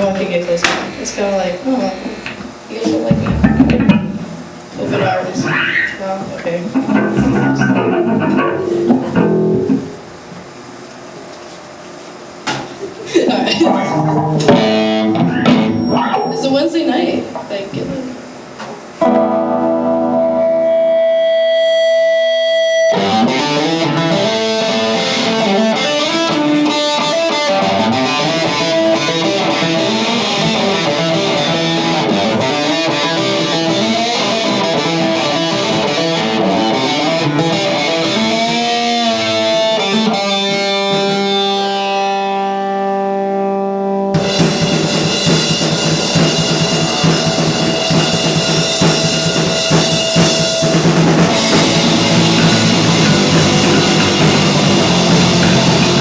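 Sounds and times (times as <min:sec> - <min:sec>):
rock band with drums: 0:02.2 - 0:06.0, 0:06.7 - 0:56.0
electric guitar with effects: 0:02.3 - 0:06.0, 0:06.7 - 0:10.4, 0:13.7 - 0:16.5, 0:19.0 - 0:56.0.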